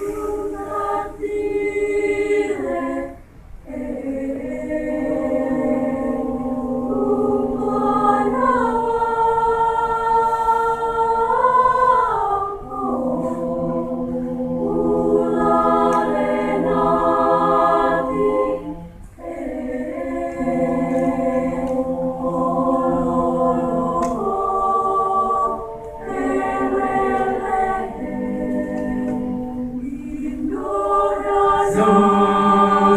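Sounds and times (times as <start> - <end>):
choir singing held chords: 0.0 - 32.9.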